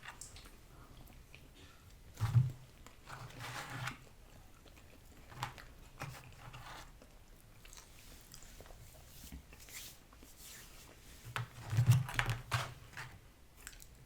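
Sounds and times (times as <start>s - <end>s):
french fries being chewed: 0.0s - 10.3s, 13.0s - 14.0s.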